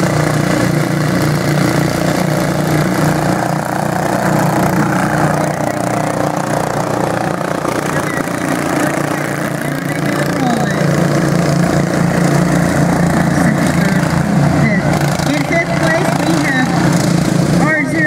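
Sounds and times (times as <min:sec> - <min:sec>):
lawn tractor engines droning: 0:00.0 - 0:18.0.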